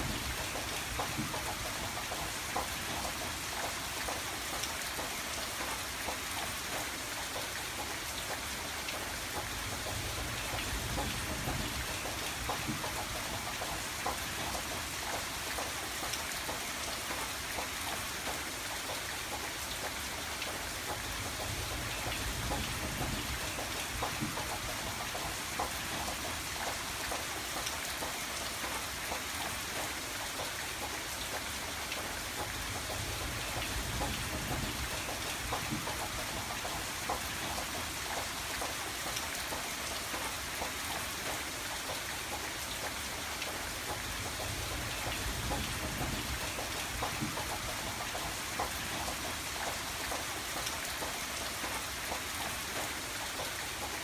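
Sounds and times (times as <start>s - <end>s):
rain drops ticking on window: 0.0s - 54.0s.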